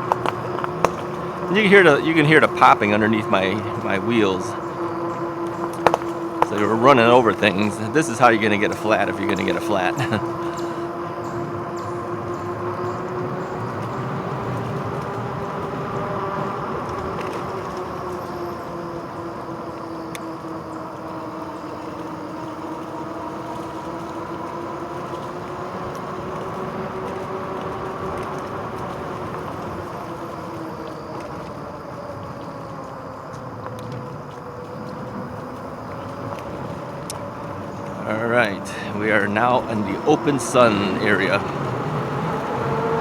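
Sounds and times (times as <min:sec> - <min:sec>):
electric bike motor whining: 0:00.0 - 0:43.0
tyres rolling on a trail: 0:00.0 - 0:43.0.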